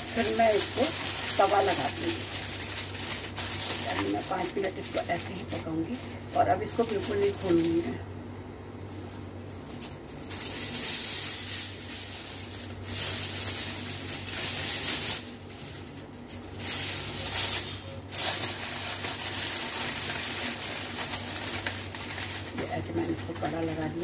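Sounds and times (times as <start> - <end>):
aluminium foil crinkling: 0.0 - 8.0, 8.9 - 24.0
steady low hum: 0.0 - 24.0.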